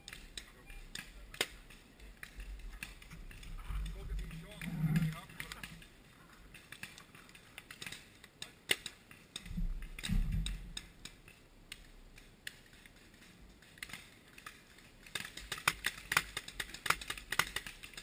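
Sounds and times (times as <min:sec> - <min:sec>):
paintball markers firing: 0:00.0 - 0:18.0.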